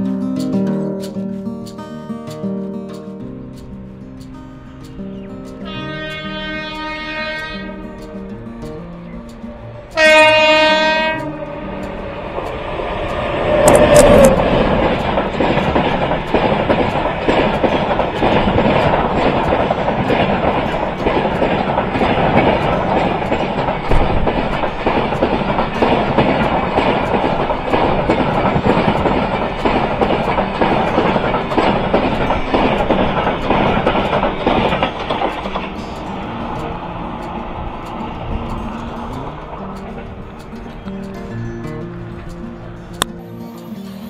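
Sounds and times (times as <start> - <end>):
wheels clacking over rail joints: 3.6 - 43.2
train wheels rushing on rails: 3.6 - 43.9.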